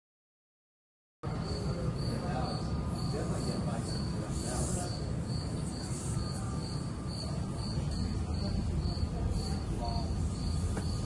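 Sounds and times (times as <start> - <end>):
cricket chirping: 1.3 - 11.0.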